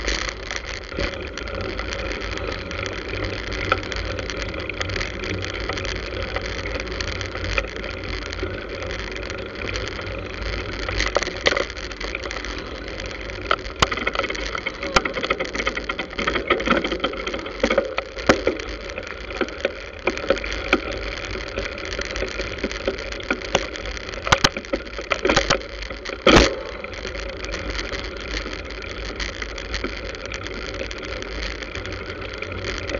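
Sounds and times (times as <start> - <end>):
road and wind noise: 0.0 - 32.9.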